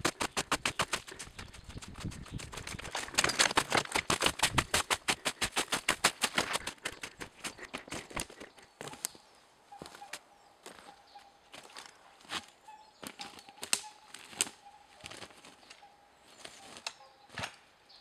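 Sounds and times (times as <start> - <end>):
footsteps crunching through snow: 0.0 - 17.6.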